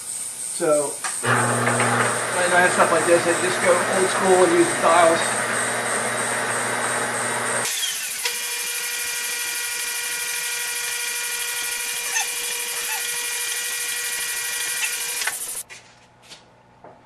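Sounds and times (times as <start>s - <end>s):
milling machine drilling metal: 1.2s - 15.6s.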